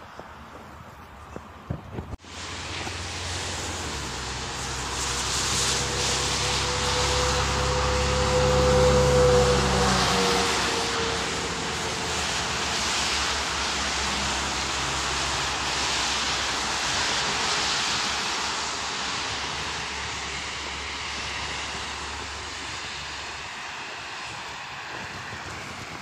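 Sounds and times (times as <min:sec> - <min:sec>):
passing vehicles rushing: 0:00.0 - 0:26.0
low engine rumble: 0:00.2 - 0:26.0.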